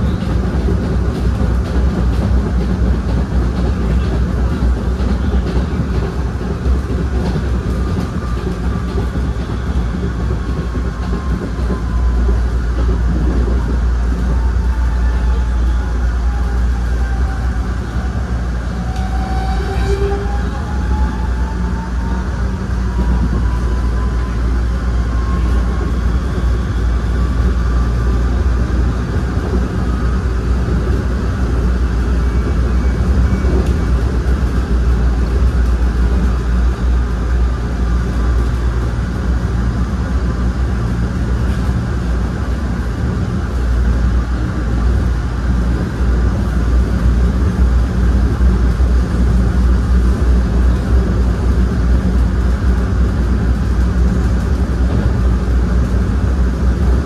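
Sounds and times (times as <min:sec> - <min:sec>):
rail car rumbling: 0:00.0 - 0:57.0.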